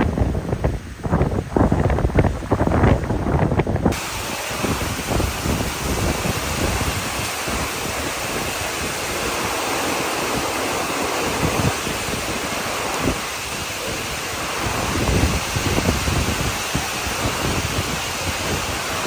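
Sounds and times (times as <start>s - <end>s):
rushing hiss of wind and water: 0.0s - 19.0s
wind gusts buffeting microphone: 0.0s - 19.0s.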